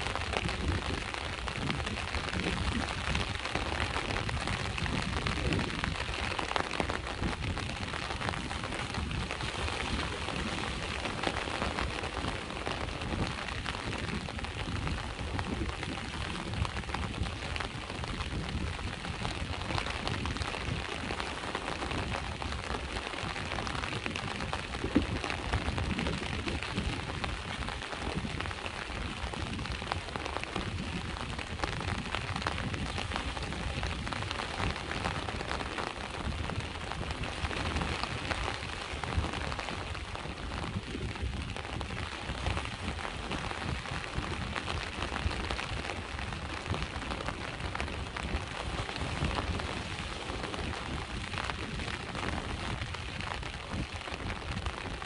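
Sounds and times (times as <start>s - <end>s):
rain patter: 0.0s - 55.0s
sea waves rumbling: 0.0s - 55.0s.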